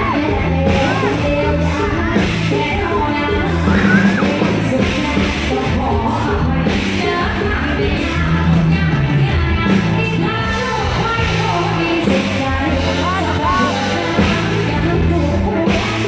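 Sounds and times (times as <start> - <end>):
heavy bass line: 0.0 - 16.0
live band music: 0.0 - 16.0
woman singing into microphone: 0.0 - 16.0.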